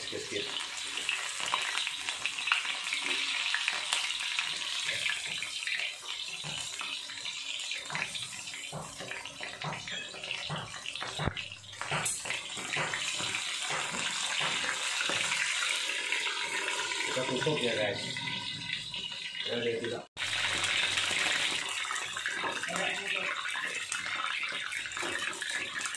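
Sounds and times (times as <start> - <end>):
deep-frying sizzle with pops: 0.0 - 25.9.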